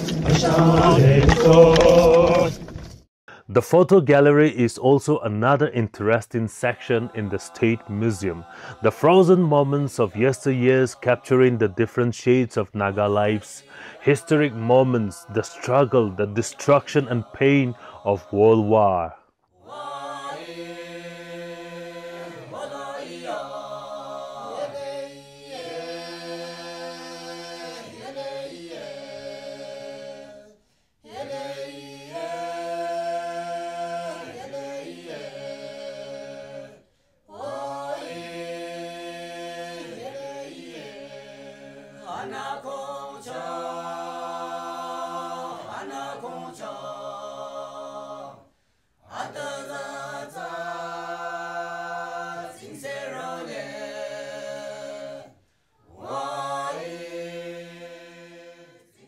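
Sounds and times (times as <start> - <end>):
a cappella singing: 0.0 - 2.6, 6.0 - 59.0.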